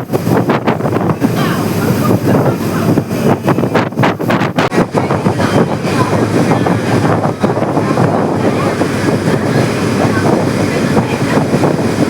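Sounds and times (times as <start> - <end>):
loud steady rumbling: 0.0 - 12.0
wind buffeting microphone: 0.0 - 12.0.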